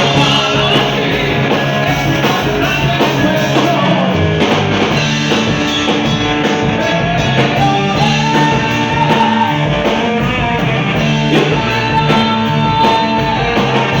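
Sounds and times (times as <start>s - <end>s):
bass guitar: 0.0s - 14.0s
electric guitar lead notes: 0.0s - 14.0s.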